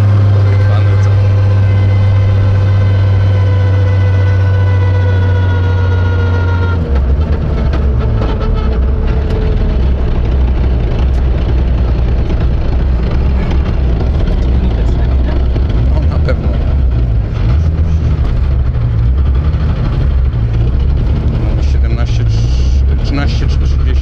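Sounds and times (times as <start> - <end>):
rally car engine: 0.0 - 24.0.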